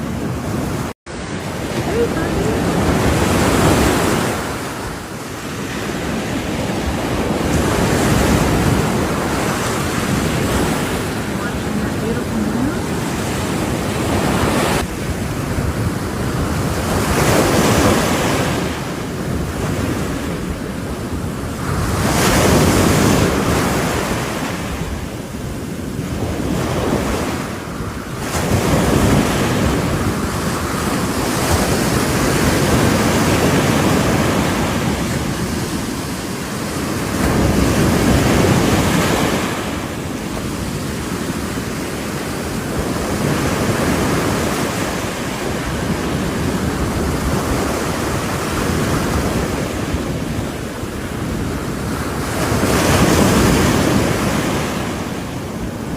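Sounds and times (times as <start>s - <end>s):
ocean waves breaking: 0.0s - 55.9s
wind on microphone: 0.0s - 55.9s.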